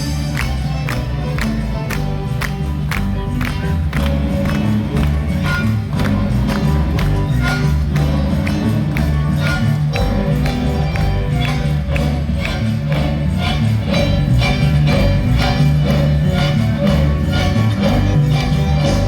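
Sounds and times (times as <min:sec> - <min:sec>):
ensemble playing polka: 0:00.0 - 0:19.0
percussive strikes: 0:00.0 - 0:19.0.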